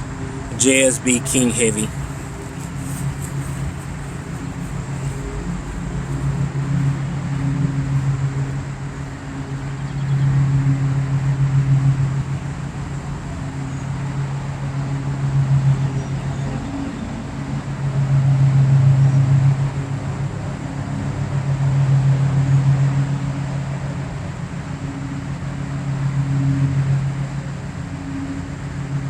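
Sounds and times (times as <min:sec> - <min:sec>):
engine droning: 0:00.0 - 0:29.0.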